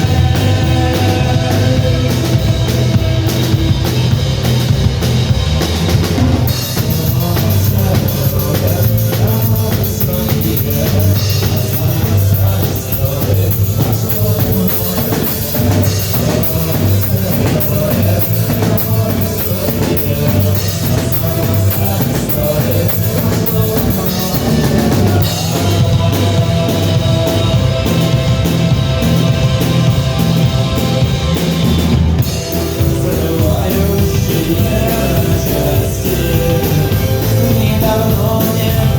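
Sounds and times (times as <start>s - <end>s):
drum kit beat with rimshots: 0.0s - 38.9s
rock music: 0.0s - 38.9s.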